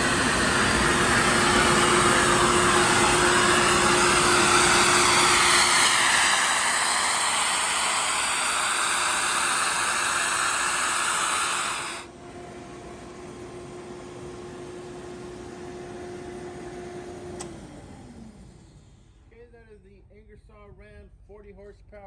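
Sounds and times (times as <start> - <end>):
air compressor running: 0.0 - 19.2.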